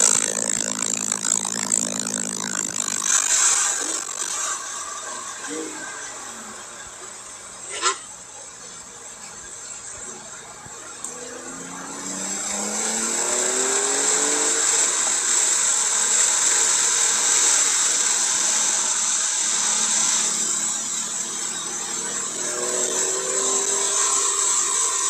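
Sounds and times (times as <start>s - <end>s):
car engine accelerating: 0.0s - 7.5s, 9.9s - 25.0s.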